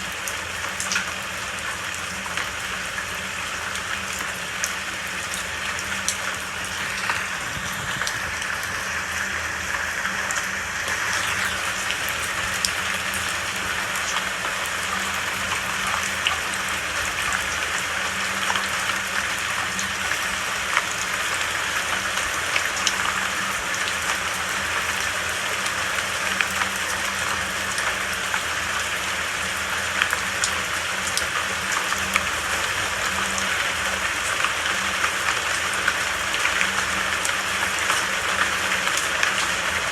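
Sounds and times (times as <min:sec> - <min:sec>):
drips ticking: 0:00.0 - 0:39.9
rain falling: 0:00.0 - 0:39.9.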